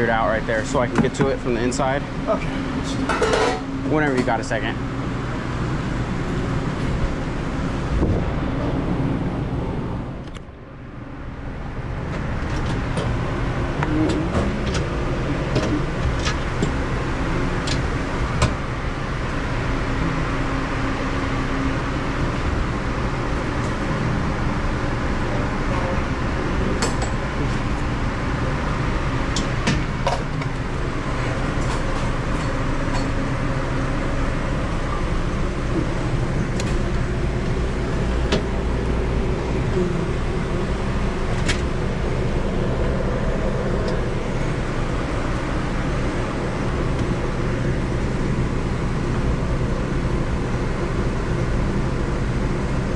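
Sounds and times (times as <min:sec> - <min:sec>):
machinery hum and rumble: 0:00.0 - 0:52.9.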